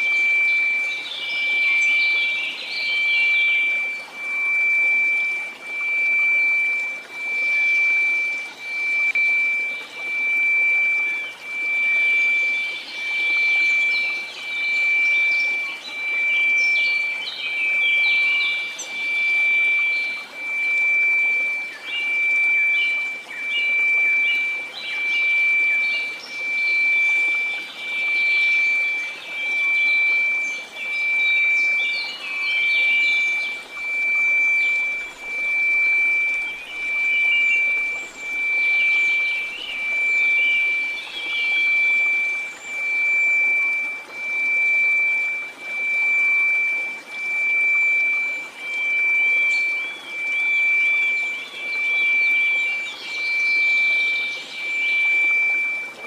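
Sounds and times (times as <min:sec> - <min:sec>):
pulsing sine tone: 0:00.0 - 0:56.0.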